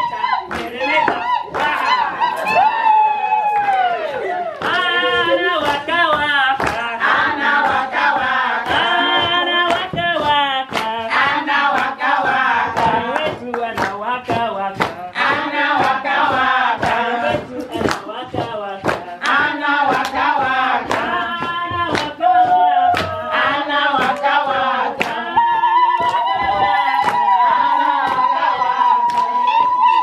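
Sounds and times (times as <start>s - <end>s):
women singing together: 0.0s - 30.0s
clapping in time: 3.6s - 11.0s, 11.7s - 23.2s, 24.9s - 30.0s.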